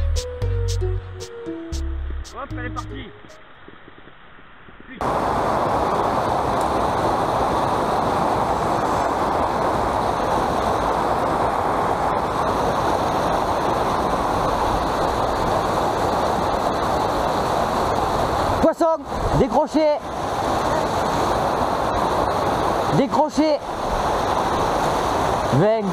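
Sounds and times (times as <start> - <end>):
river white water rushing: 5.0 - 25.9.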